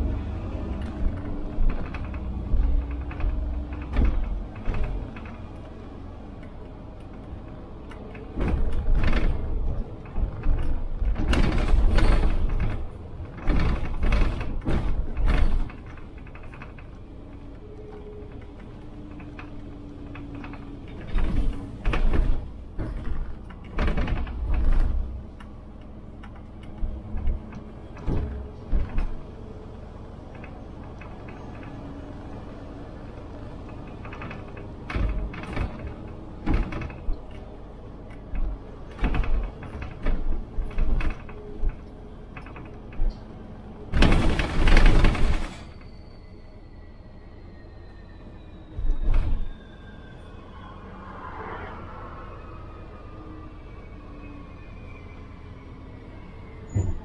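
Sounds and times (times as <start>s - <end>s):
clattering and knocking inside bus: 0.0s - 50.7s, 52.6s - 57.0s
bus engine rumble: 0.0s - 57.0s.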